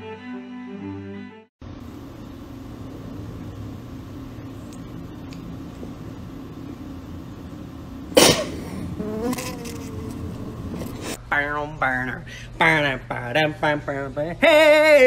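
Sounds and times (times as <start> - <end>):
low room hum: 1.6 - 15.0.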